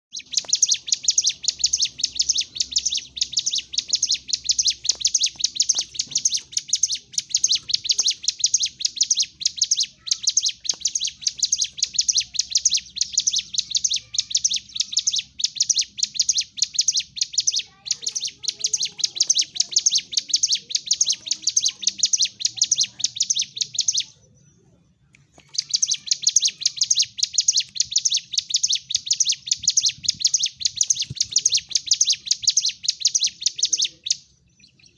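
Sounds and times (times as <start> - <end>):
bird chattering song: 0.1 - 34.9.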